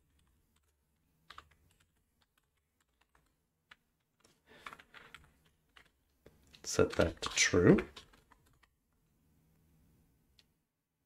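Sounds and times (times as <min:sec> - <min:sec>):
faint keyboard keystrokes: 0:00.0 - 0:09.0.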